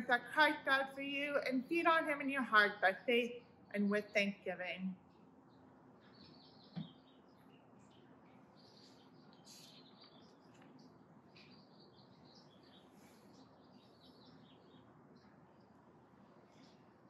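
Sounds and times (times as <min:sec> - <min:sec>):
faint birdsong: 0:00.0 - 0:17.0
small birds chirping: 0:00.8 - 0:17.0.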